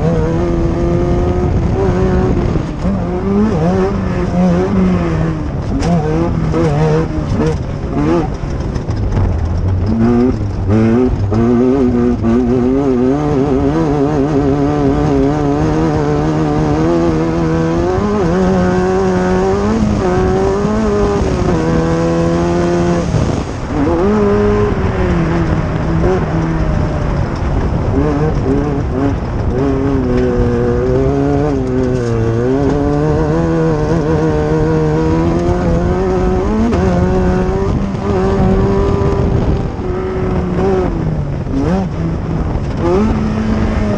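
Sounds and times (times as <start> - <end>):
engine revving under load: 0.0 - 43.9
wind and terrain noise: 0.0 - 43.9.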